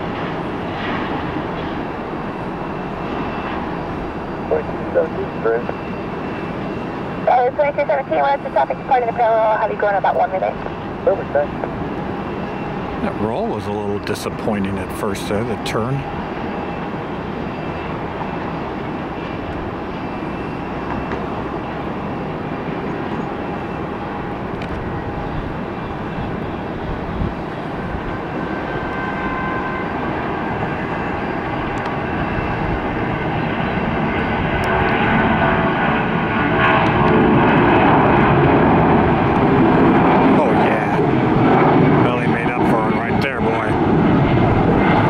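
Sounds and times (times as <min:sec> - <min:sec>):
jet engines at takeoff: 0:00.0 - 0:45.0.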